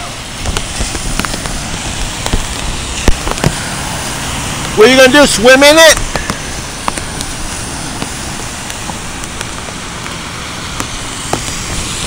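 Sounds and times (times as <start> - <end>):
outdoor street noise: 0.0 - 12.0.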